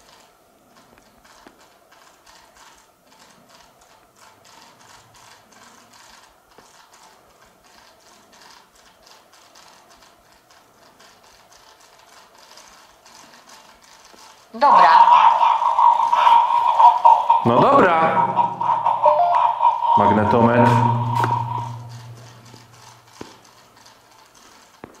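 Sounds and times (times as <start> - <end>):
rapid irregular clicking: 0.0 - 25.0.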